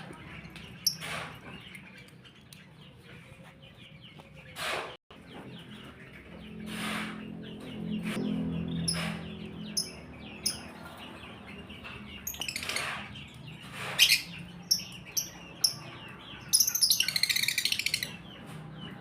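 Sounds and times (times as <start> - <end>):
lovebirds chirping: 0.0 - 19.0.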